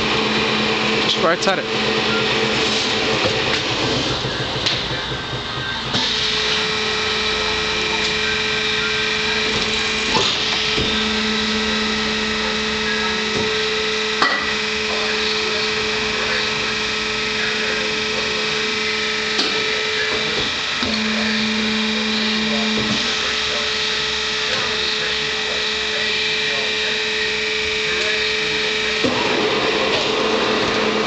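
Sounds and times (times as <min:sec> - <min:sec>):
machine humming: 0:00.0 - 0:31.0.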